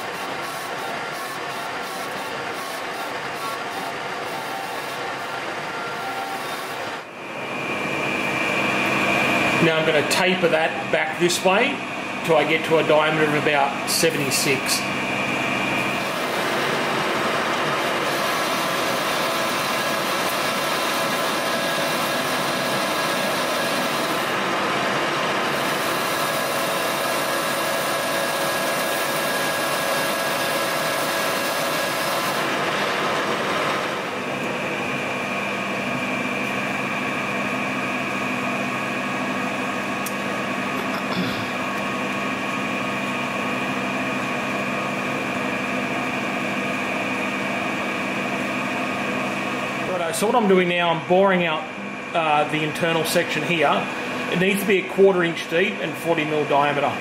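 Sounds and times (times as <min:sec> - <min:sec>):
metal lathe running: 0:00.0 - 0:57.0.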